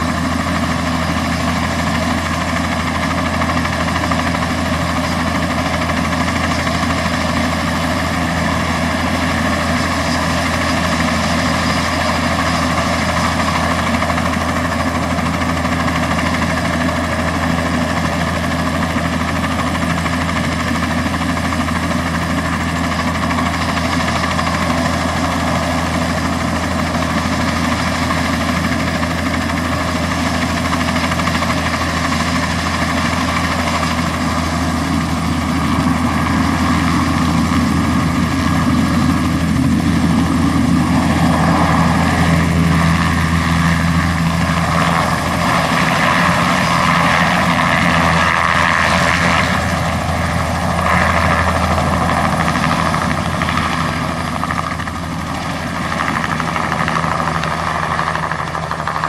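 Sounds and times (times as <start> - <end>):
helicopter turbine and rotor: 0.0 - 59.0.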